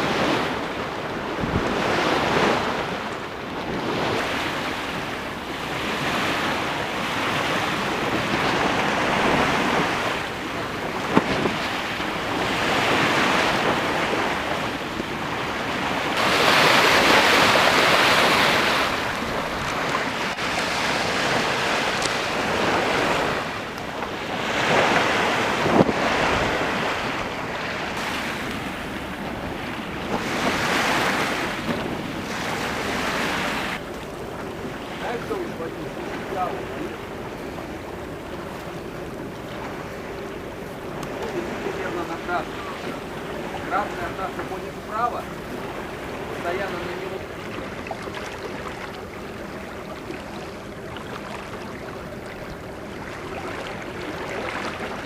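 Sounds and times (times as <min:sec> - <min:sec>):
water rushing along a hull: 0:00.0 - 0:55.0
wind on microphone: 0:00.0 - 0:55.0.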